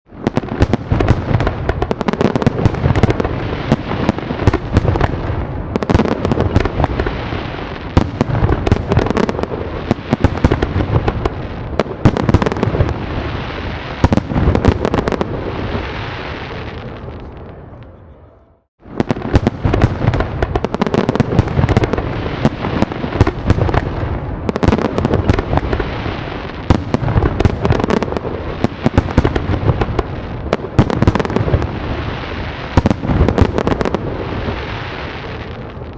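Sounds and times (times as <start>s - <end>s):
fireworks bangs and crackling: 0.1s - 18.1s, 18.8s - 35.9s.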